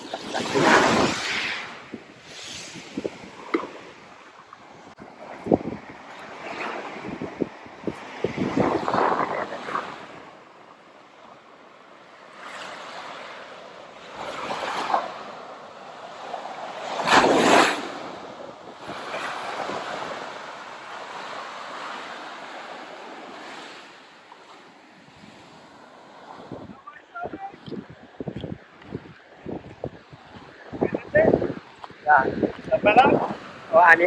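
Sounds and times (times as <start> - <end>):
ocean surf breaking: 0.0 - 34.0.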